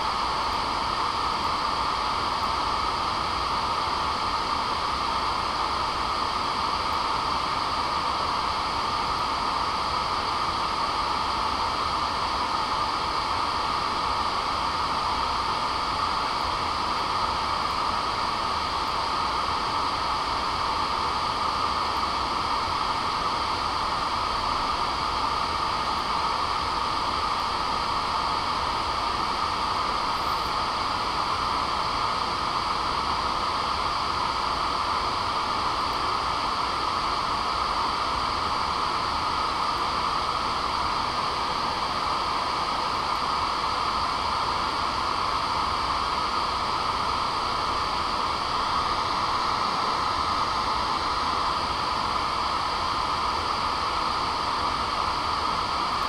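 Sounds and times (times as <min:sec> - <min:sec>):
noise test signal hiss: 0:00.0 - 0:56.0.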